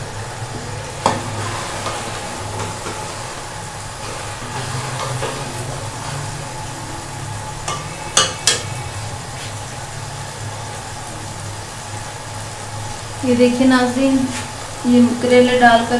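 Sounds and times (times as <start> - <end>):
vegetables sizzling in a pot: 0.0 - 15.9.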